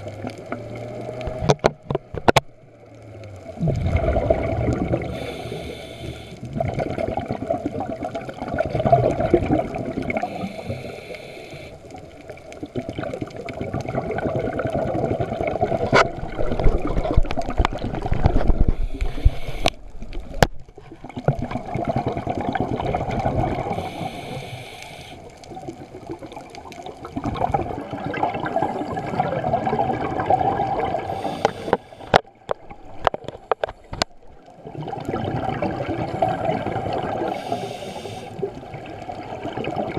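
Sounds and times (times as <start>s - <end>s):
muffled underwater rush: 0.0s - 39.9s.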